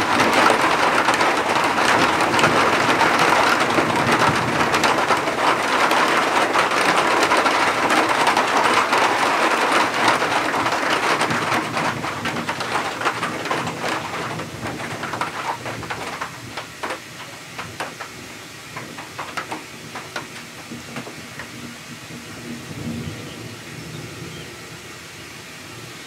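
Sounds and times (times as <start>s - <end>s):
raindrops ticking: 0.0s - 23.0s
heavy rain hissing: 0.0s - 26.0s.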